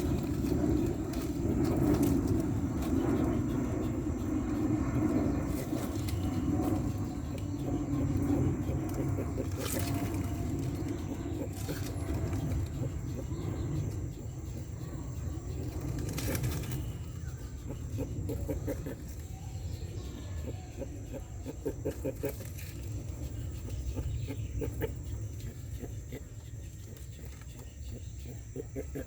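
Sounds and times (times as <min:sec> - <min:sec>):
steady low rumble: 0:00.0 - 0:29.0
tortoise clucking grunts: 0:00.0 - 0:29.0.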